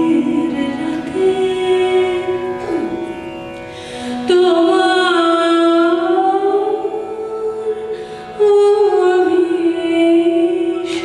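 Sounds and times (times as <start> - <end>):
woman singing: 0.0 - 3.2, 4.0 - 11.0
harmonium accompaniment: 0.0 - 11.0.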